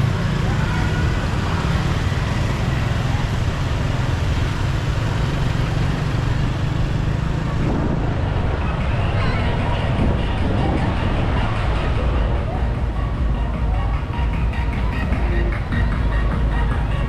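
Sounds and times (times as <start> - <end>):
motorbike engine and road noise: 0.0 - 17.0.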